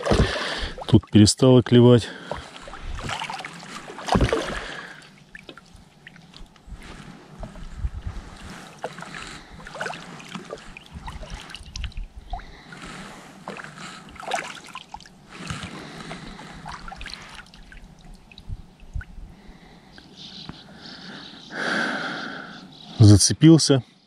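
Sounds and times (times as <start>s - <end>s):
water splashing and sloshing: 0.0s - 19.8s.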